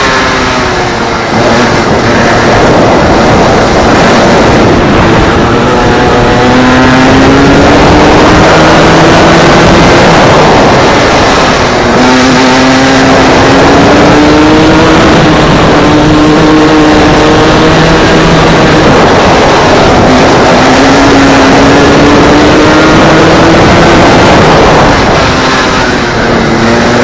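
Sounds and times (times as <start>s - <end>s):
go-kart engine accelerating: 0.0s - 27.0s
wind noise: 0.0s - 27.0s.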